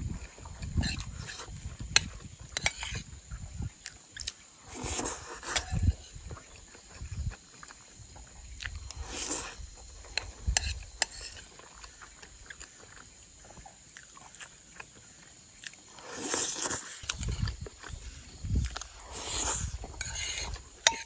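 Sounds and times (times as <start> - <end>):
chewing rice: 0.1 - 21.0.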